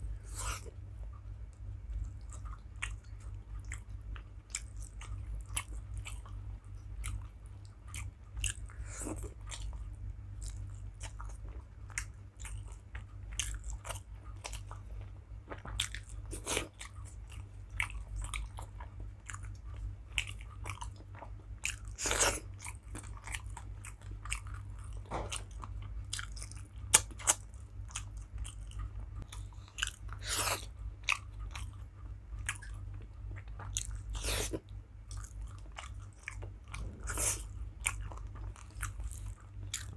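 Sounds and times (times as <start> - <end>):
steady low hum: 0.0 - 39.9
person chewing and biting: 0.1 - 0.8, 7.9 - 39.9
food crunching: 7.9 - 39.9.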